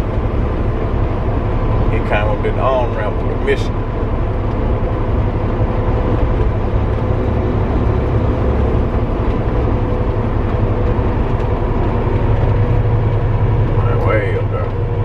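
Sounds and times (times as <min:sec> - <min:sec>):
road noise: 0:00.0 - 0:15.0
truck diesel engine rumble: 0:00.0 - 0:15.0.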